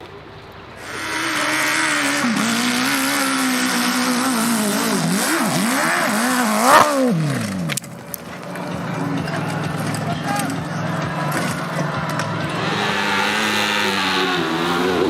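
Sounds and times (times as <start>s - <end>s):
motorcycle engine at high revs: 0.8s - 15.0s.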